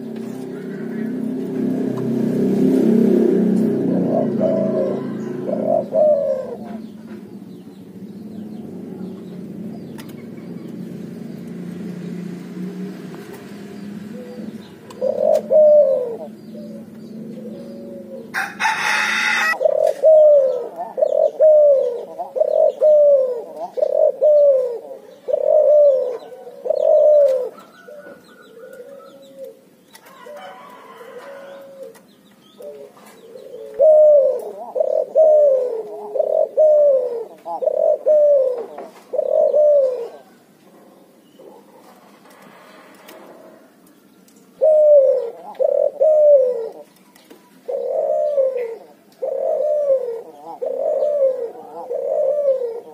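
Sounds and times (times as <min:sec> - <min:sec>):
dove cooing: 0:00.0 - 0:43.9, 0:44.5 - 0:52.9.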